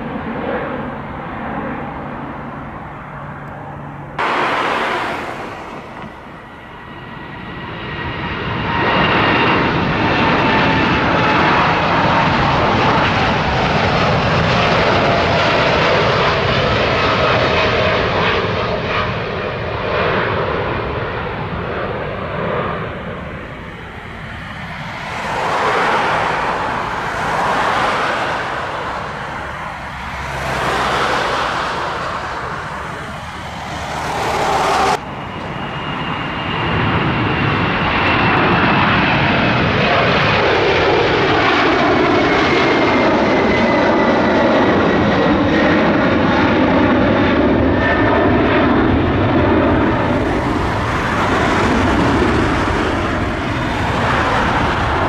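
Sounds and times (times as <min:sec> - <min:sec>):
jet engines roaring at takeoff: 0:00.0 - 0:55.0.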